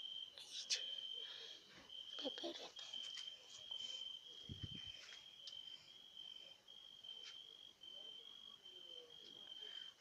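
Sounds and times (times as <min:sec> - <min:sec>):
cricket trill: 0:00.0 - 0:10.0.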